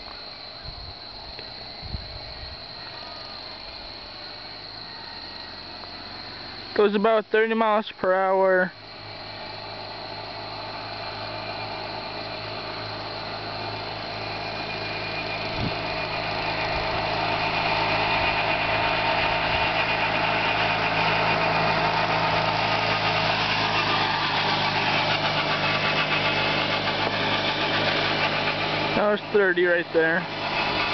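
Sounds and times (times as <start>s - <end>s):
lawn tractor driving past: 0.0s - 30.9s.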